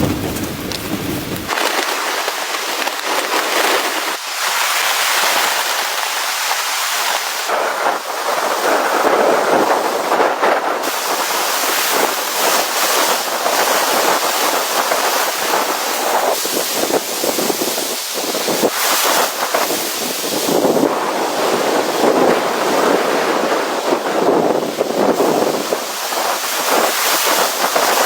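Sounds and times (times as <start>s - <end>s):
rushing wind and driven snow: 0.0s - 28.0s.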